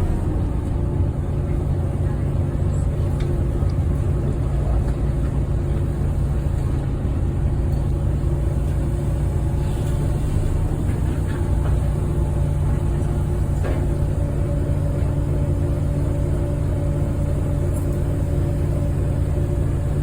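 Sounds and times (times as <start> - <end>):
bus diesel engine whining: 0.0 - 20.0.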